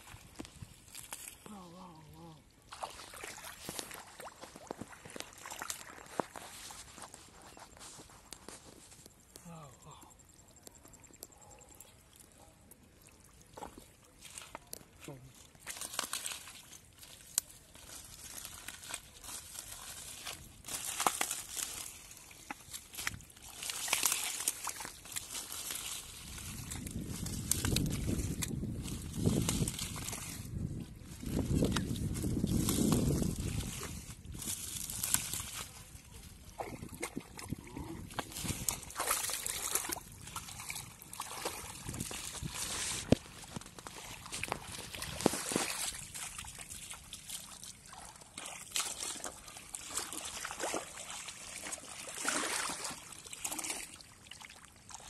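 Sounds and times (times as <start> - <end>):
water splashing and sloshing: 0.0 - 9.4, 10.4 - 55.0
leaves rustling in wet mud: 0.0 - 11.3, 11.9 - 55.0.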